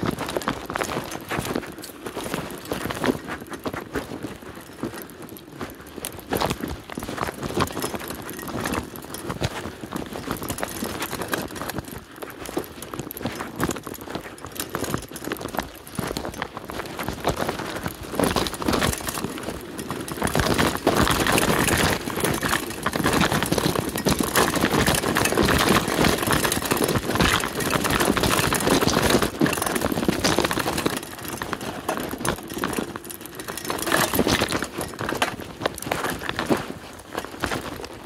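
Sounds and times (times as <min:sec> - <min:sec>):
bike rattling over bumps: 0:00.0 - 0:38.0
bike tyres rumbling on dirt: 0:00.0 - 0:38.0.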